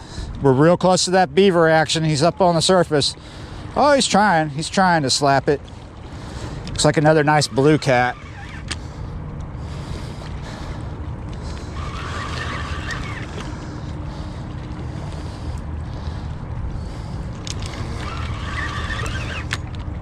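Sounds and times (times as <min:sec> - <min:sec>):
river water against rocks: 0:00.2 - 0:20.0.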